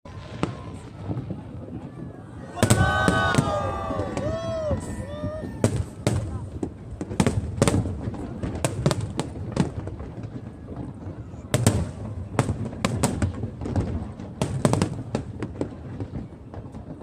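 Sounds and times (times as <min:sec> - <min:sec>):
fireworks bangs and cracks: 0:00.1 - 0:17.0.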